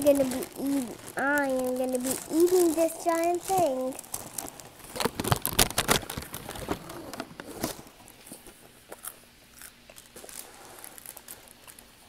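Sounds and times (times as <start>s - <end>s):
child crunching crisp treat: 0.0s - 12.0s.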